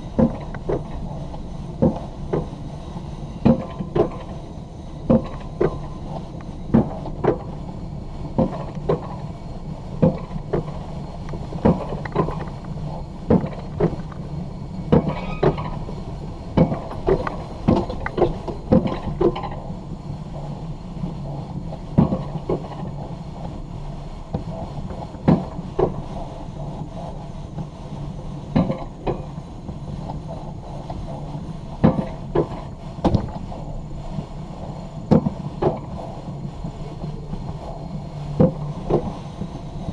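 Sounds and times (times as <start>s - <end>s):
coaster lift low hum: 0.0s - 39.9s
coaster track clacks: 0.0s - 39.9s.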